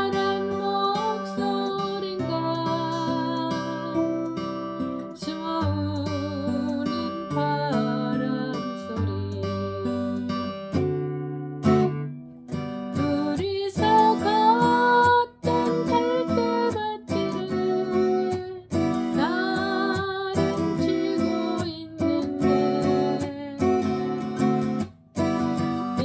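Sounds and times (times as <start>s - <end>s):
acoustic guitar melody: 0.0s - 26.0s.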